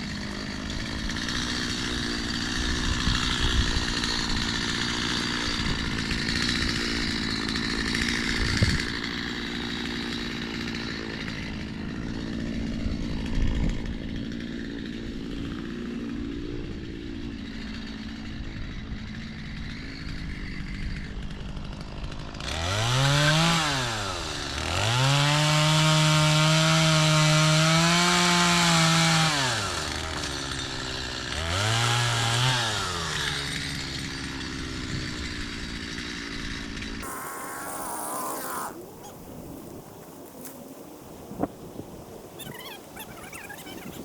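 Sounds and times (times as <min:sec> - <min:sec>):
chainsaw idling and revving: 0:00.0 - 0:41.2.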